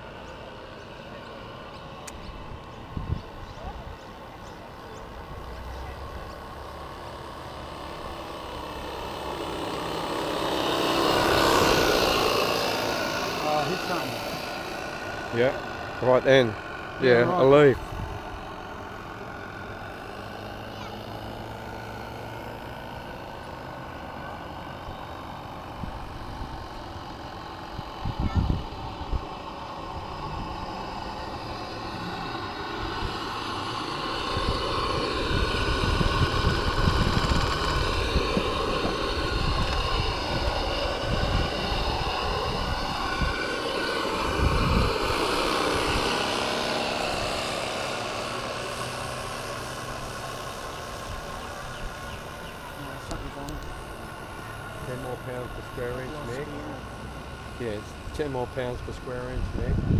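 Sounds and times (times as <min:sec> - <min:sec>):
model steam boat buzzing: 0:00.0 - 0:59.9.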